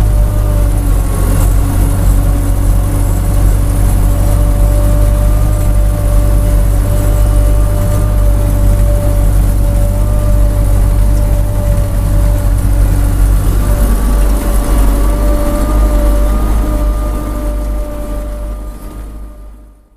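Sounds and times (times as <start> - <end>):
higher whine: 0.0 - 19.9
steady engine whine: 0.0 - 19.9
tractor diesel engine rumble: 0.0 - 19.9.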